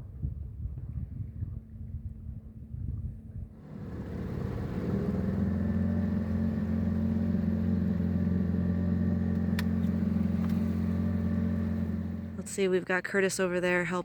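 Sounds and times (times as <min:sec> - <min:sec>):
boat engine running: 0:01.5 - 0:14.0.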